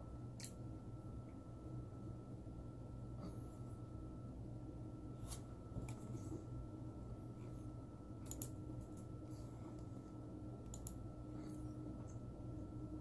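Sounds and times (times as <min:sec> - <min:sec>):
faint high whine: 0:00.0 - 0:13.0
steady low hum: 0:00.0 - 0:13.0.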